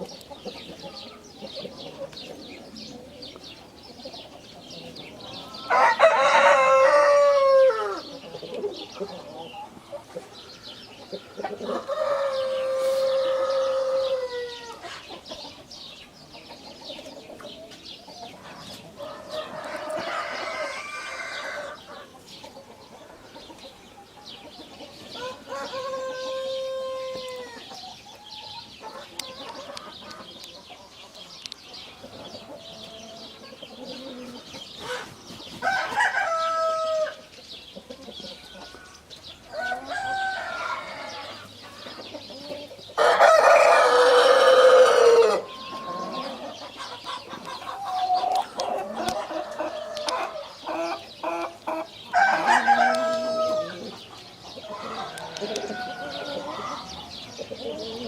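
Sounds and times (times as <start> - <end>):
roosters crowing: 0.0 - 9.7, 10.4 - 15.2, 18.4 - 22.1, 24.2 - 30.3, 32.2 - 37.3, 38.2 - 58.0
chickens clucking: 0.0 - 58.0.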